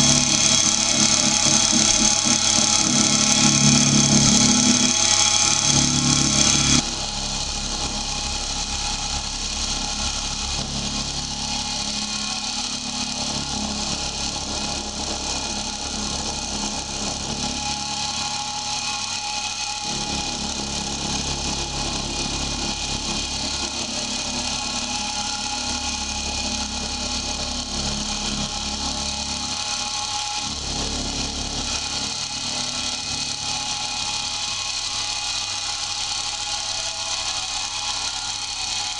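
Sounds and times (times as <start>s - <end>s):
drill press milling metal: 0.0s - 9.1s, 9.8s - 38.9s.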